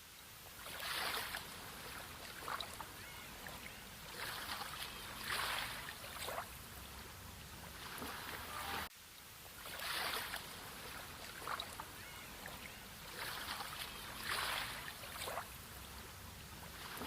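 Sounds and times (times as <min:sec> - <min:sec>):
sea water washing and lapping: 0:00.0 - 0:17.0
small splashes: 0:00.4 - 0:17.0.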